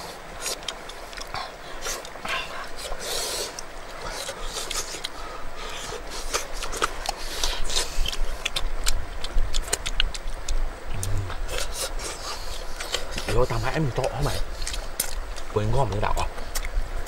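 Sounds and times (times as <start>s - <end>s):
chewing and lip smacks: 0.4s - 15.5s, 16.2s - 16.8s.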